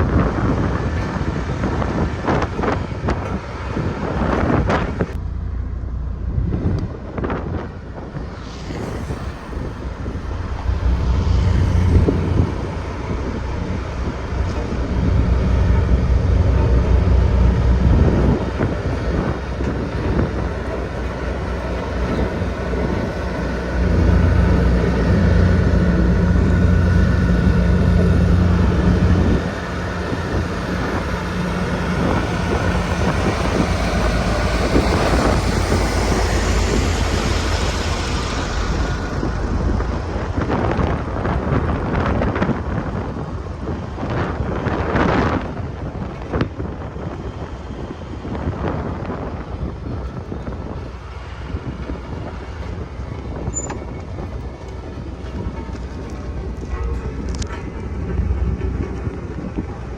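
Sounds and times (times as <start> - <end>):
road roller diesel engine: 0.0 - 59.9.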